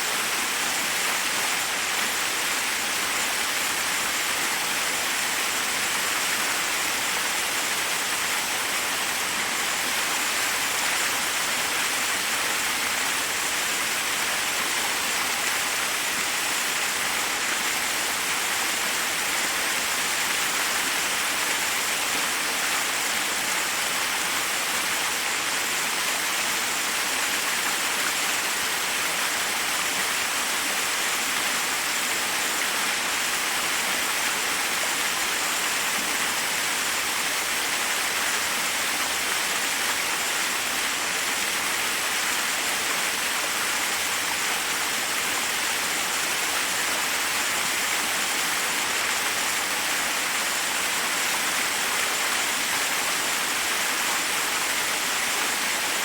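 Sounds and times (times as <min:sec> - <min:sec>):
waterfall onto rocks: 0:00.0 - 0:56.0.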